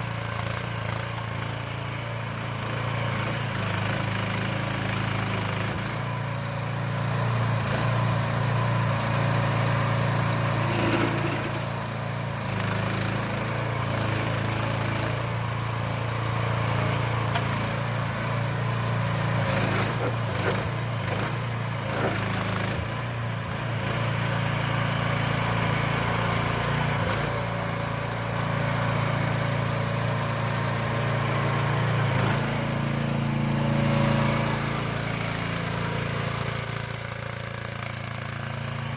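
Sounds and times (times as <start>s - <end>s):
small excavator engine running: 0.0s - 38.9s.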